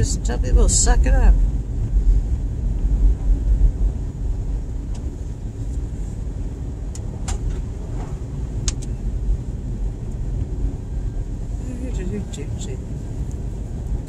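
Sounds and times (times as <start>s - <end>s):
car driving on snowy road: 0.0s - 14.0s.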